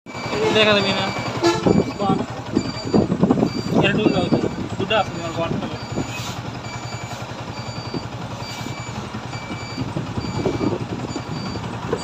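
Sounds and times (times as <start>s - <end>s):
low mechanical rumble: 0.1s - 12.0s
short high electronic beeps: 0.1s - 12.0s.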